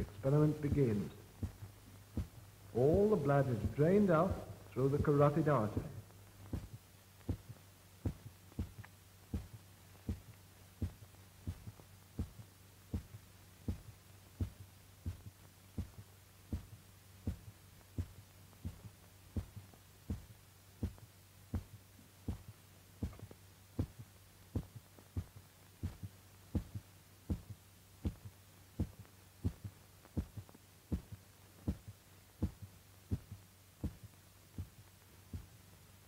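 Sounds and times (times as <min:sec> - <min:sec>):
dog heartbeat: 0:00.0 - 0:35.6
steady low hum: 0:00.0 - 0:36.0.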